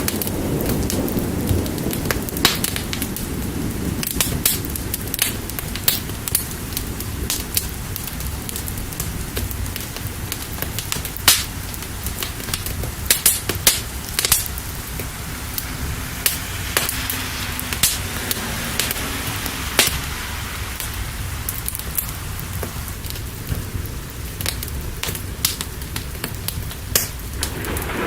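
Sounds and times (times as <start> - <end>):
fire crackling and popping: 0.0 - 28.0
rain hissing: 0.0 - 28.0.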